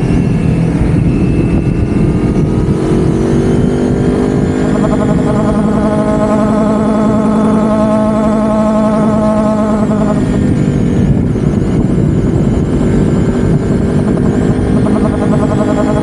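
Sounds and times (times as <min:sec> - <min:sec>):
rough vehicle rumble: 0:00.0 - 0:16.0.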